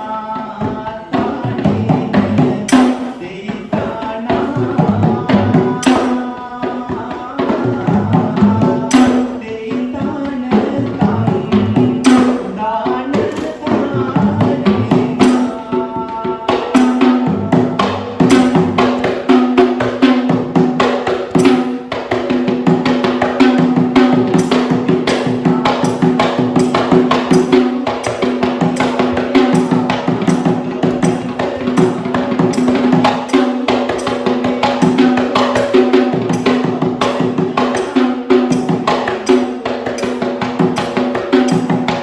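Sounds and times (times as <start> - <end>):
fast frame drum drumming: 0.0 - 42.0.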